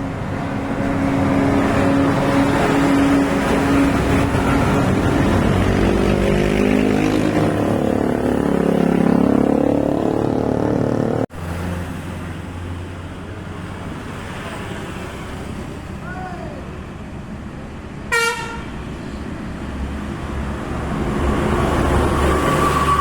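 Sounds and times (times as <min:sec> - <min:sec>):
heavy vehicle engine passing: 0:00.0 - 0:16.0, 0:18.7 - 0:23.0
traffic rumble: 0:00.0 - 0:23.0.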